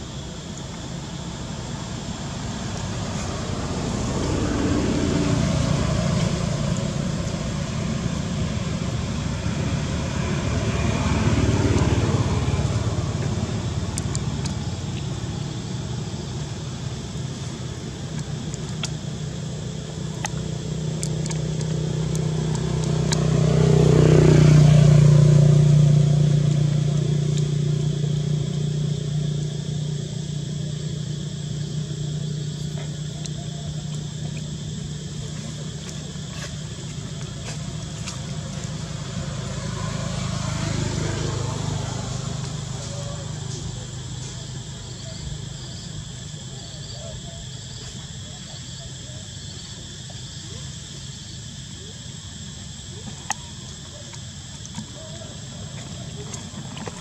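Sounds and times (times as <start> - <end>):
vehicles passing on road: 0.0 - 57.0.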